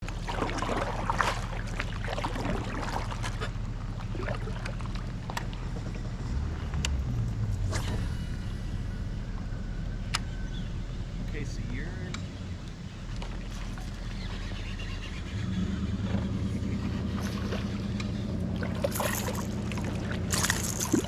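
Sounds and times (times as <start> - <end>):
low rumble of kayak on water: 0.0 - 21.0.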